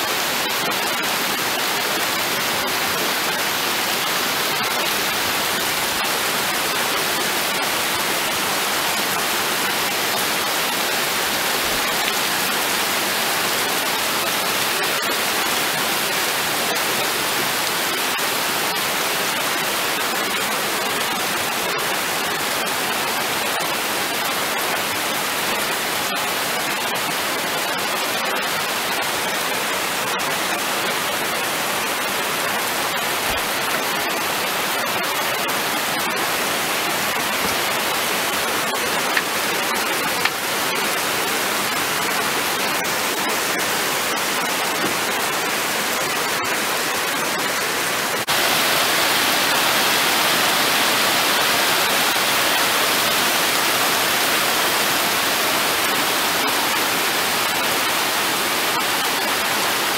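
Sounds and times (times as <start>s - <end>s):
steady downpour of rain: 0.0s - 59.9s.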